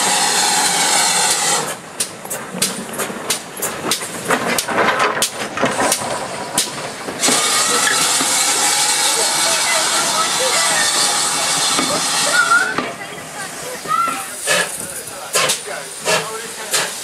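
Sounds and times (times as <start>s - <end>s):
steam hissing: 0.0s - 4.0s, 6.6s - 17.0s
locomotive wheels clanking: 0.0s - 17.0s.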